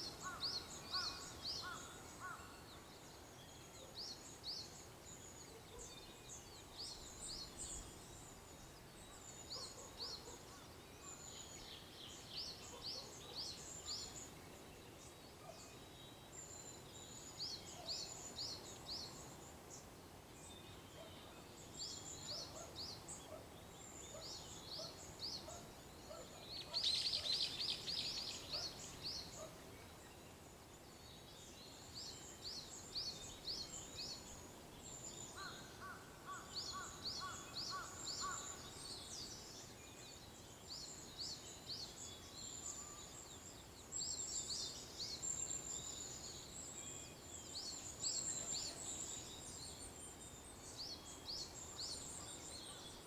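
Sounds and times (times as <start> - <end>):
faint outdoor hiss: 0.0 - 53.0
songbirds chirping: 0.0 - 53.0.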